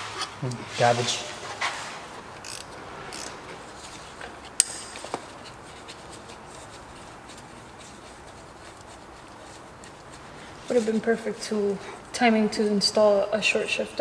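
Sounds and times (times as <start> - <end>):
tools rustling: 0.0 - 11.8.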